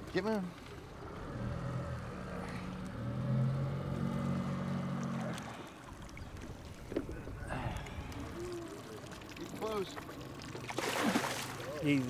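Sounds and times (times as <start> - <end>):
boat motor idling: 0.0 - 10.7.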